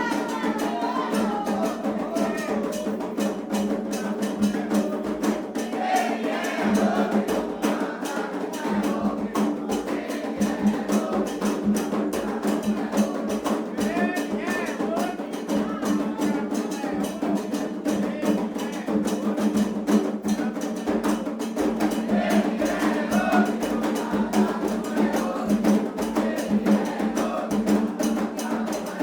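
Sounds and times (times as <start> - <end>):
drums in fast rhythm: 0.0 - 29.0
sharp wood-block beat: 0.0 - 29.0
voices singing a chant: 0.0 - 29.0.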